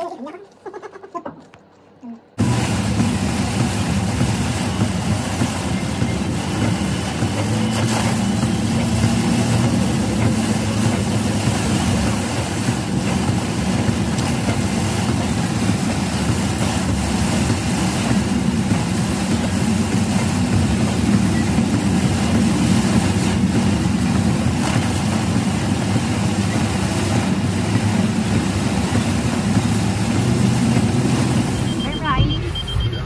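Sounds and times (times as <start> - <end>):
heavy rain on car roof: 2.4 - 32.7
engine and tyres on wet road: 2.4 - 33.0.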